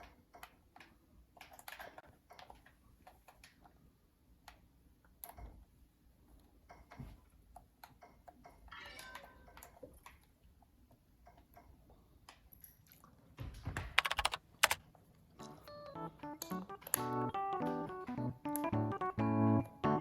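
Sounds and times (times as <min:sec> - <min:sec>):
faint irregular clicks and taps: 0:00.0 - 0:08.7, 0:09.5 - 0:19.0.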